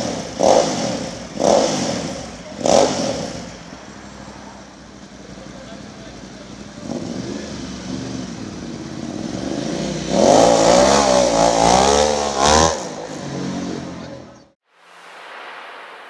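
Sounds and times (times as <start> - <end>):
motorcycle accelerating past: 0.0 - 14.4.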